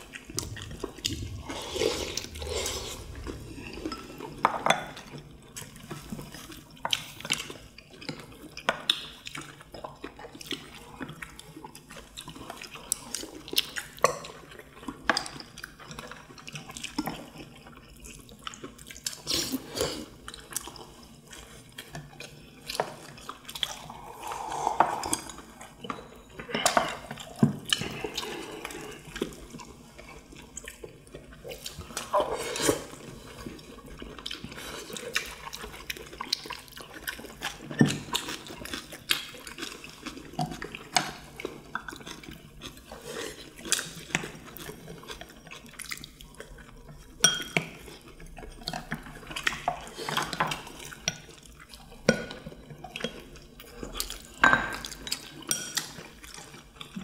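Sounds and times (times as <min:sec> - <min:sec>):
chewing and slurping: 0:00.0 - 0:57.0.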